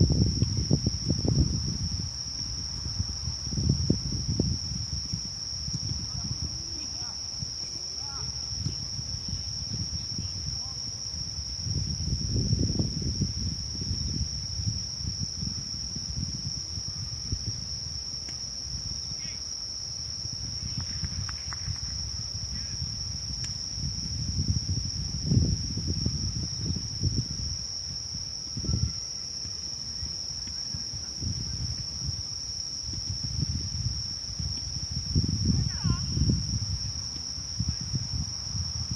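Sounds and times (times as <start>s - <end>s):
crickets trilling: 0.0s - 38.9s
wind buffeting microphone: 0.0s - 38.9s.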